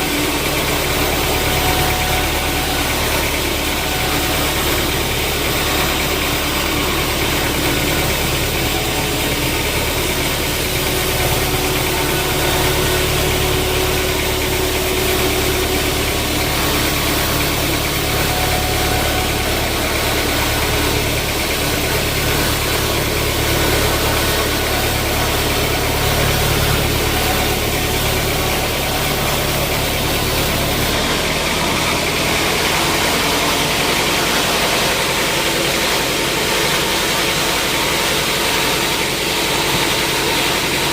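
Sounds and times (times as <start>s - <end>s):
constant mechanical noise: 0.0s - 40.9s
engine running: 0.0s - 40.9s.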